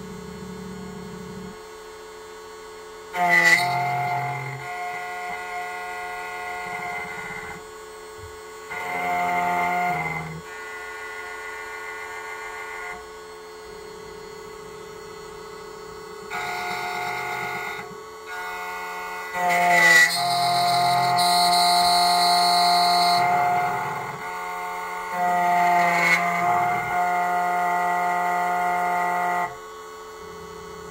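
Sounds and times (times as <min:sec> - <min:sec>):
key-cutting machine motor whine: 0:00.0 - 0:30.9.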